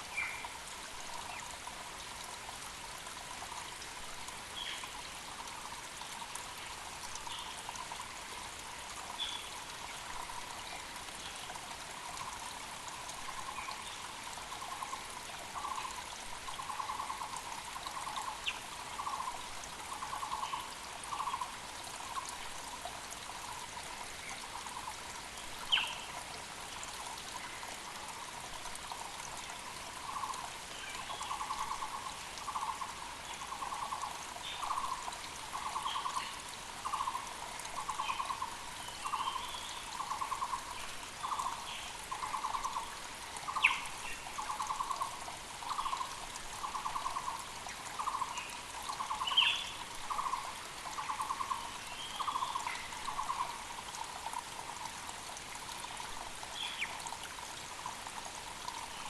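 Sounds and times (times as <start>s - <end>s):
mountain creek rushing: 0.0s - 59.0s.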